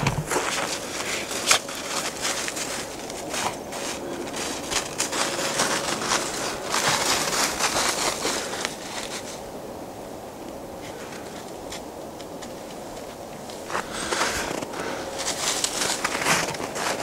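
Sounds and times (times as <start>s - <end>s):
footsteps through dry leaves: 0.0s - 9.6s, 12.4s - 17.0s.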